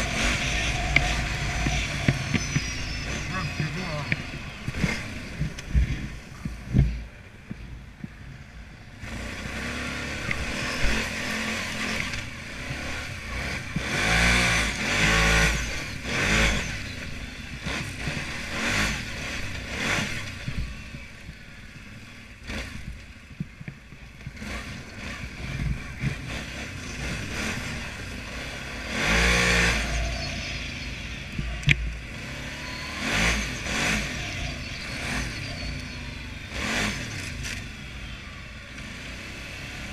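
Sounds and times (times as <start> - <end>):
engine revving: 0.0 - 6.8, 8.9 - 21.3, 22.0 - 23.2, 24.3 - 39.9.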